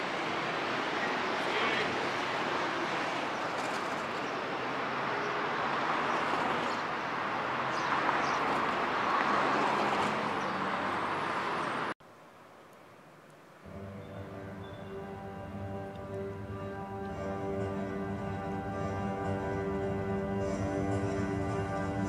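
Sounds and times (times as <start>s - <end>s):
passing cars and vans: 0.0s - 12.0s, 13.6s - 22.0s.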